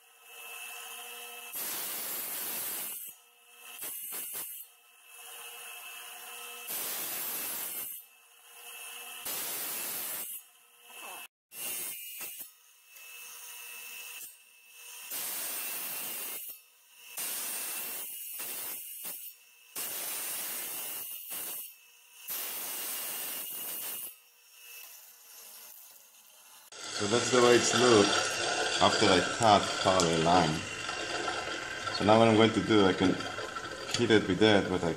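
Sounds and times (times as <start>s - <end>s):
saw motor running: 0.0s - 34.9s
tile saw blade grinding hiss: 0.0s - 34.9s.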